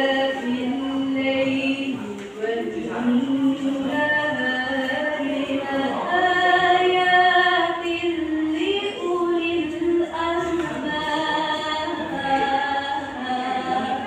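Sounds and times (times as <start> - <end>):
young woman chanting melodically: 0.0 - 14.0.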